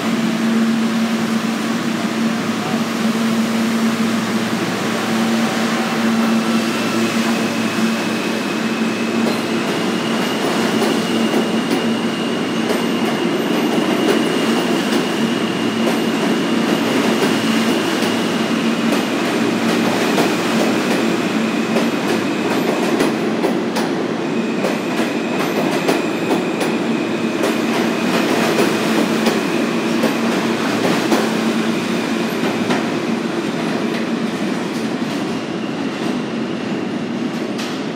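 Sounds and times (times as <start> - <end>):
subway train running past: 0.0 - 37.9.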